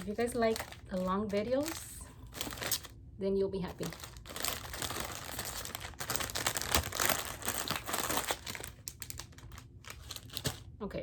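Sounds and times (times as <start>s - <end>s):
packaging crinkling and rustling: 0.0s - 3.0s, 3.7s - 10.7s.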